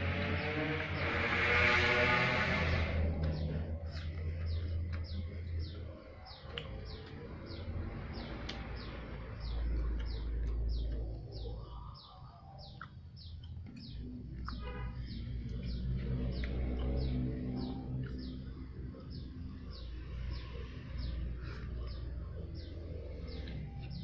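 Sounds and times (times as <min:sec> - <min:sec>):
bird chirping: 0:02.4 - 0:24.0.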